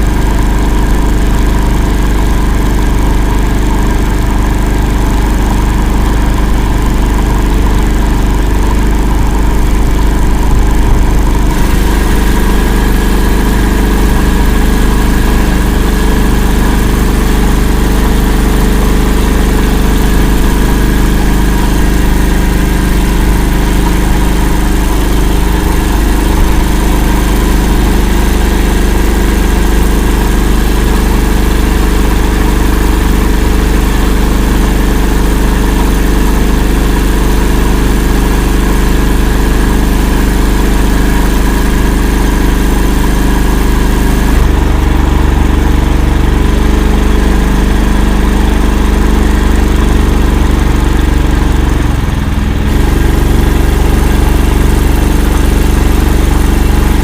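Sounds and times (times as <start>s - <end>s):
vehicle engine running loud: 0.0s - 57.0s.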